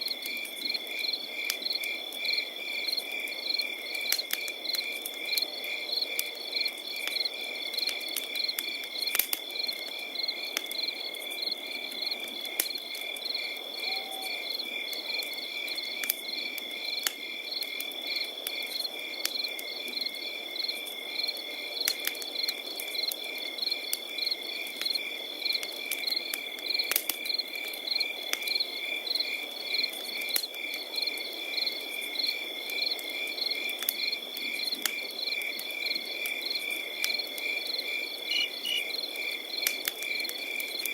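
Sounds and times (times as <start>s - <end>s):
campfire crackling and popping: 0.0s - 40.9s
crickets chirping: 0.1s - 40.9s.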